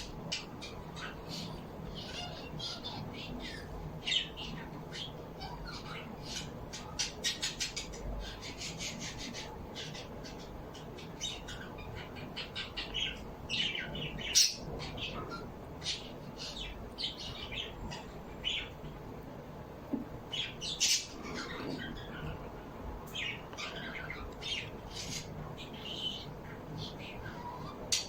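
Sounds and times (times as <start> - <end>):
small birds chirping and squawking: 0.0 - 28.0.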